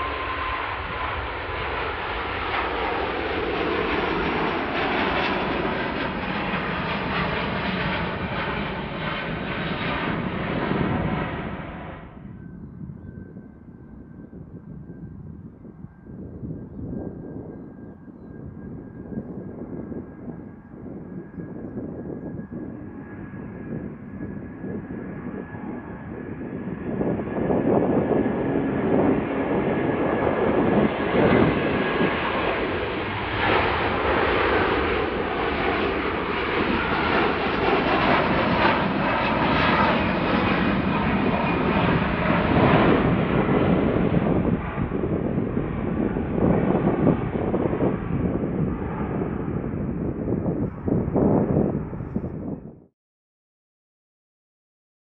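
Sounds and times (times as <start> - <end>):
jet airliner taking off: 0.0 - 52.8.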